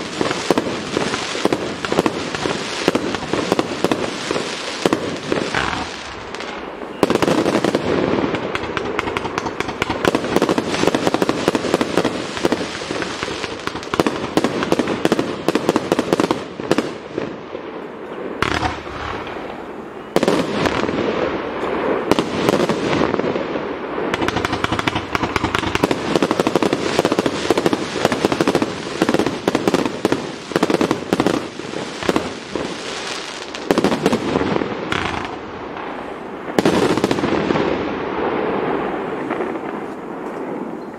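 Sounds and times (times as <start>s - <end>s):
fireworks firing rapidly: 0.0s - 40.7s.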